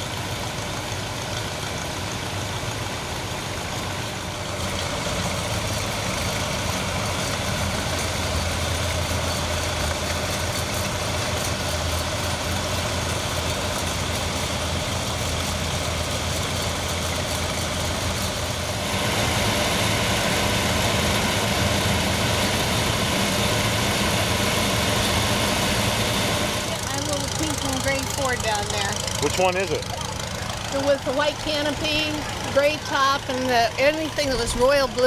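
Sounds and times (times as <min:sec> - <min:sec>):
tractor engines idling: 0:00.0 - 0:35.0.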